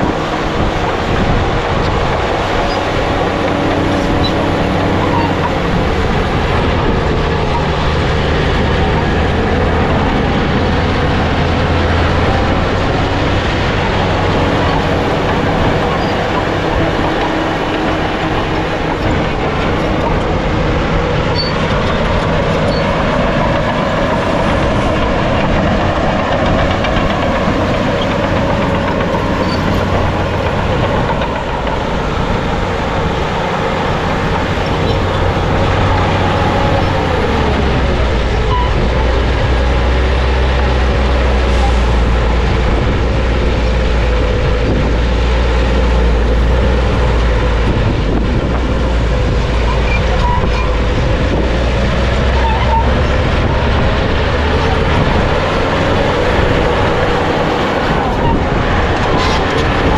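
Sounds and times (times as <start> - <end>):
bulldozer diesel engine: 0.0 - 59.9
bulldozer tracks clanking: 0.0 - 59.9.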